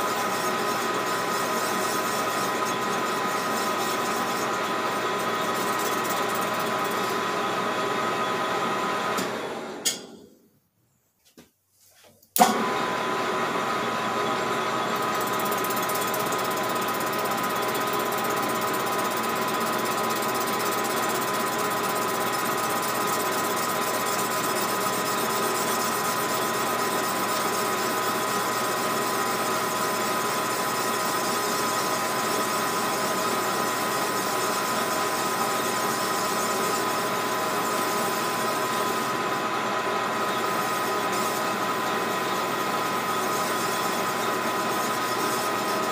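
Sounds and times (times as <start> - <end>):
metal lathe whining: 0.0 - 9.9, 12.4 - 45.9.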